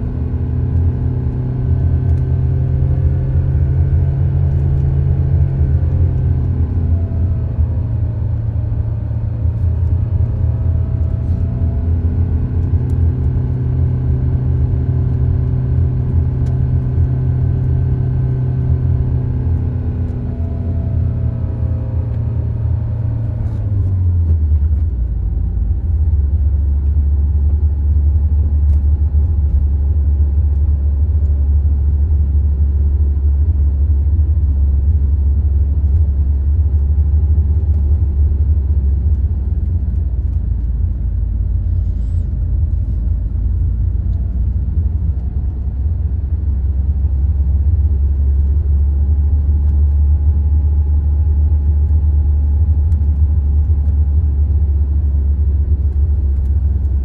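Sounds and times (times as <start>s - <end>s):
car driving on asphalt: 0.0s - 57.0s.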